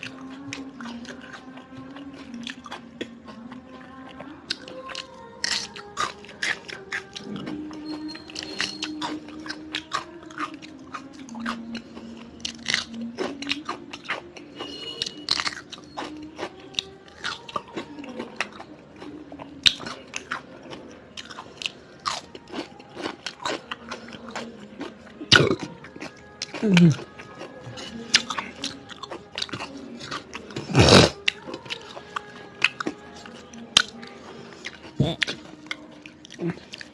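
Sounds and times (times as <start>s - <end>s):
person chewing crunchy food: 0.0s - 36.9s.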